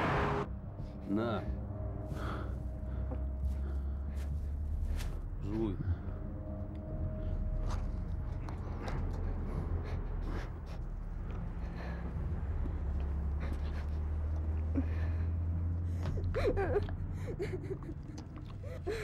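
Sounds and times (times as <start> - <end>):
van rumbling: 0.0 - 19.0.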